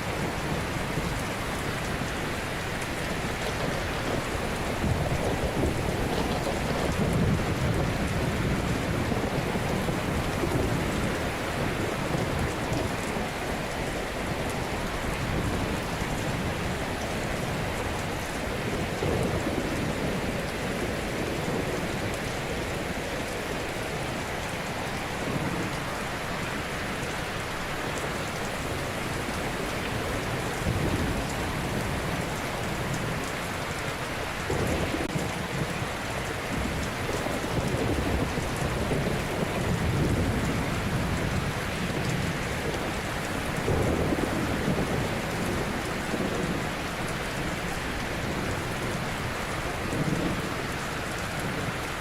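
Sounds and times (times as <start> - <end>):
ocean waves breaking on shore: 0.0 - 52.0.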